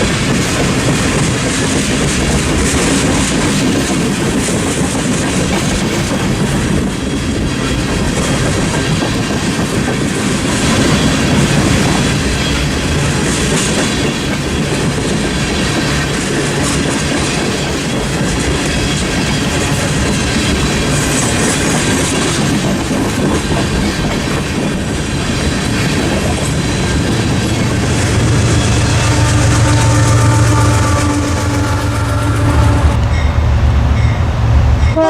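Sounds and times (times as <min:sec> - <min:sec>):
train wheels rolling on track: 0:00.0 - 0:35.0.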